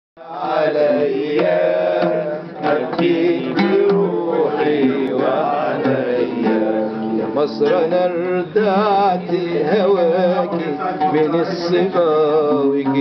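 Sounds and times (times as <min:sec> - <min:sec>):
oud plucked with a pick: 0:00.2 - 0:13.0.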